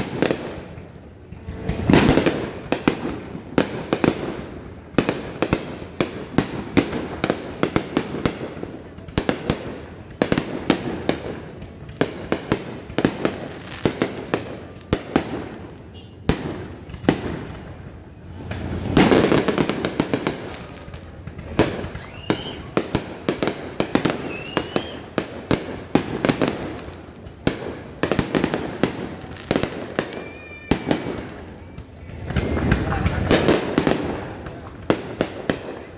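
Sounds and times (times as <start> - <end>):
fireworks bursting: 0.0 - 35.9.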